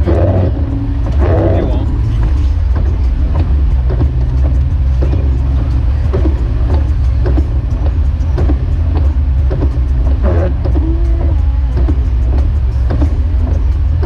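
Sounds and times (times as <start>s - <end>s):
low engine and road rumble: 0.0s - 14.0s.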